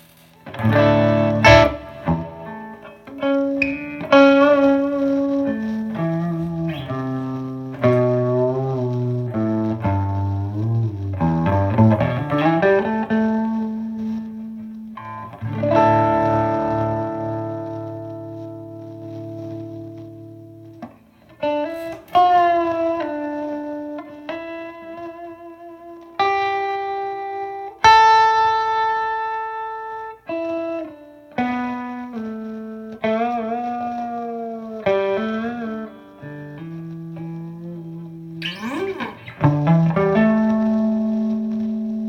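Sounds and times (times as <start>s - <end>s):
clean electric guitar notes: 0.0s - 42.0s.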